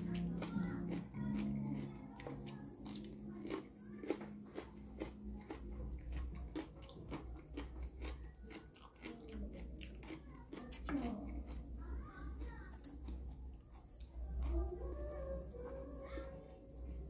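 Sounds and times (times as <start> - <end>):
man chewing crunchy vegetable: 0.0 - 17.0.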